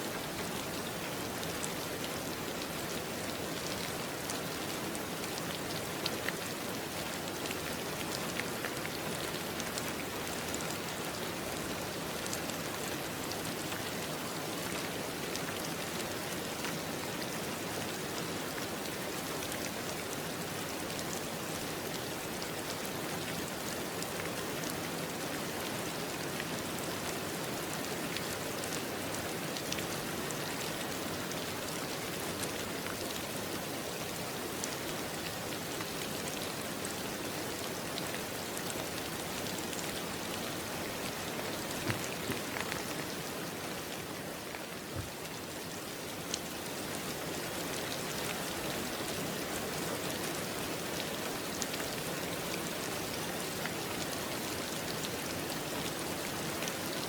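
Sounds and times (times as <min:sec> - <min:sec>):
steady rain: 0:00.0 - 0:57.0
raindrops ticking on a surface: 0:00.1 - 0:57.0.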